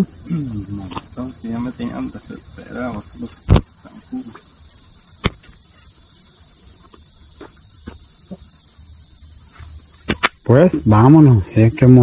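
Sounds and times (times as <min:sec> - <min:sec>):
night insects chirping: 0:00.0 - 0:12.0.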